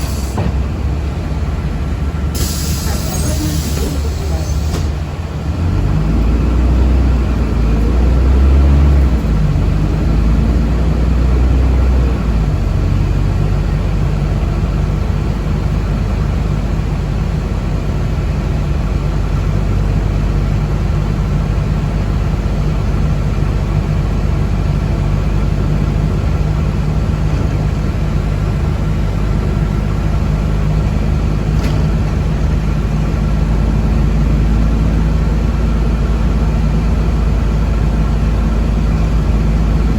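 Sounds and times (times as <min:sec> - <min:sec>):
bus running noise: 0:00.0 - 0:39.9.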